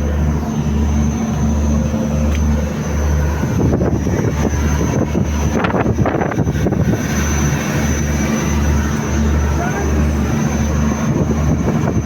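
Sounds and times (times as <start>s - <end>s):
boat engine humming: 0.0s - 12.0s
wind buffeting microphone: 0.0s - 12.0s.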